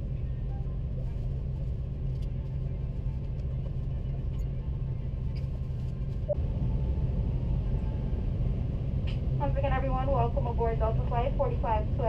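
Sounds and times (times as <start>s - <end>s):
aircraft cabin drone: 0.0s - 12.0s.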